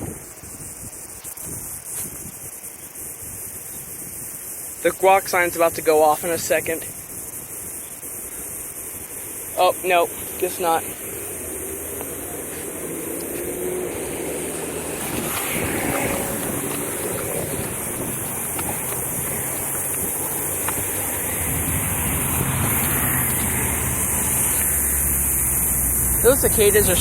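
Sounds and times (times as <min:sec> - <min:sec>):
cicadas buzzing: 0:00.0 - 0:27.0
passing road traffic: 0:00.0 - 0:27.0.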